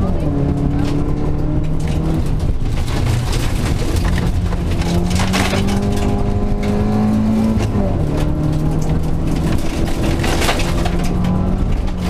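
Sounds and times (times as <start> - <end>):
gravel noise: 0.0 - 12.0
rally car engine: 0.0 - 12.0.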